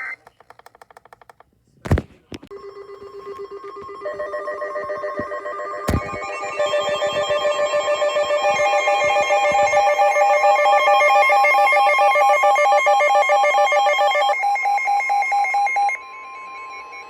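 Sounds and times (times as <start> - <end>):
warbling electronic alert tone: 2.5 - 17.0.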